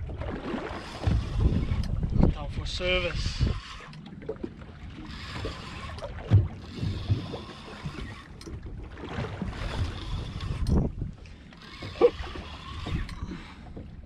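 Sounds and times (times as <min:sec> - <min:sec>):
sea noise: 0:00.0 - 0:14.0
wind: 0:00.0 - 0:14.0.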